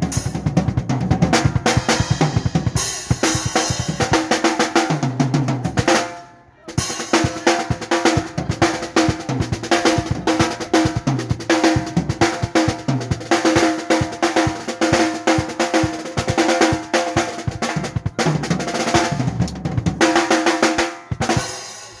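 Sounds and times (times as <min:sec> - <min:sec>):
drum kit played fast: 0:00.0 - 0:22.0.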